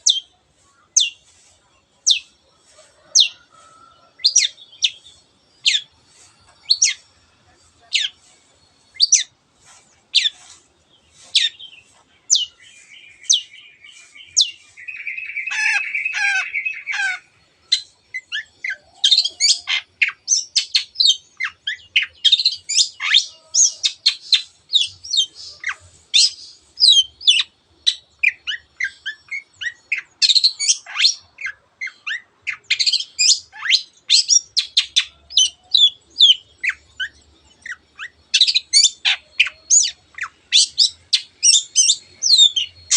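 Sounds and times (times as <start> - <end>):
shrike singing: 2.1 - 42.9.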